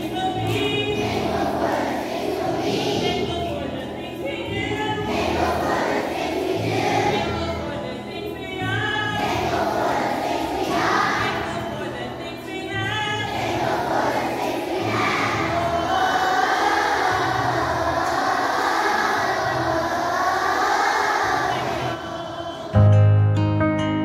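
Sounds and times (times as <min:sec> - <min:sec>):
children singing together: 0:00.0 - 0:07.8, 0:08.6 - 0:22.8
music accompaniment: 0:00.0 - 0:24.0.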